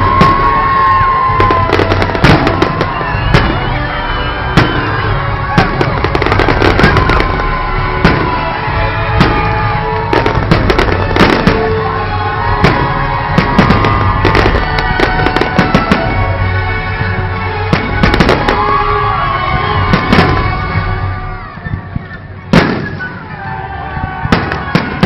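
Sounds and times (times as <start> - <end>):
fireworks bangs and crackles: 0.0 - 25.0
loud music: 0.0 - 25.0.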